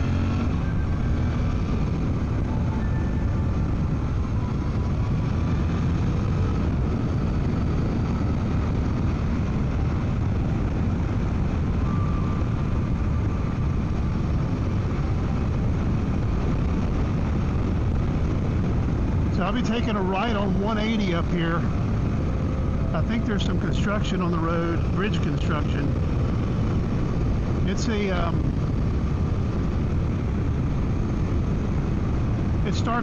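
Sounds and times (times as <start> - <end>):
motorcycle engine cruising: 0.0 - 33.0
wind rush: 0.0 - 33.0.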